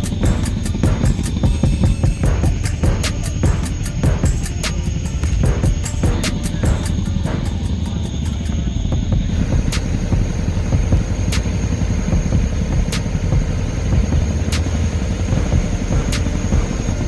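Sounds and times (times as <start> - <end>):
helicopter rumbling: 0.0 - 17.0.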